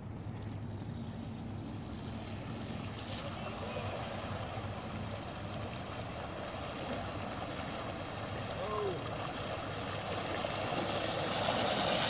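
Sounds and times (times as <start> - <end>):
steady low hum: 0.0 - 12.0
bicycle tyres splashing through water: 1.8 - 12.0.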